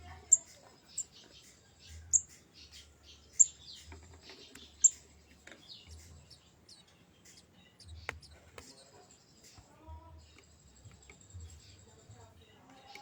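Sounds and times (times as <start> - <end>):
bird chirping: 0.0 - 13.0
soft bird twittering: 0.0 - 13.0.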